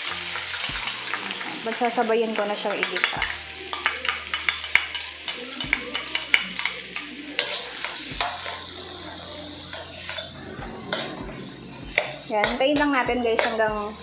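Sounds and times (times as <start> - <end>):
garlic and onion sizzling in oil: 0.0 - 14.0
metal spatula scraping a wok: 2.4 - 14.0.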